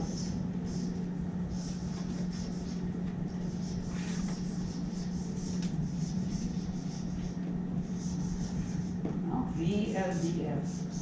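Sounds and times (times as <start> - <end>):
marker squeaking on paper: 0.0 - 9.0, 9.9 - 11.0
low electrical hum: 0.0 - 11.0.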